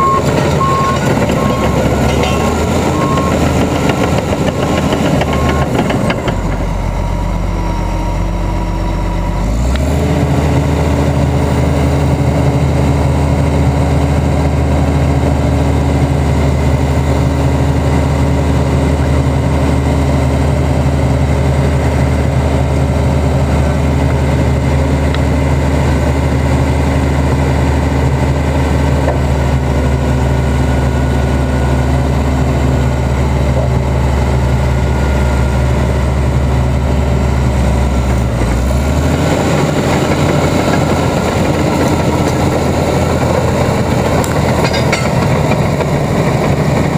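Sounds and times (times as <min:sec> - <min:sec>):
bulldozer diesel engine revving: 0:00.0 - 0:46.9.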